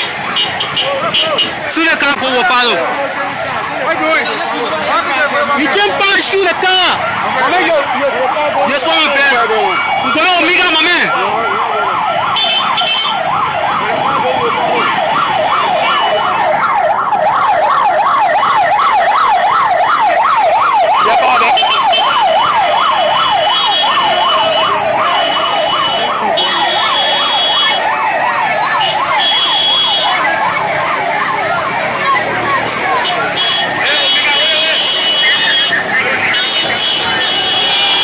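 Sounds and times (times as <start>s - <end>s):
siren yelping: 0.0s - 38.0s.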